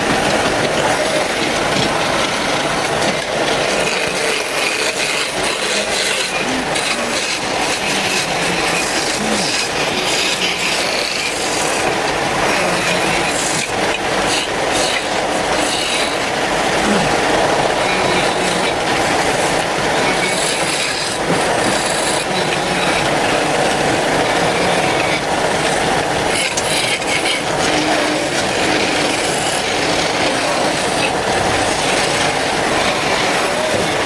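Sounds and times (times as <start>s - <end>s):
tool scraping wood: 0.0s - 17.2s, 17.9s - 34.0s.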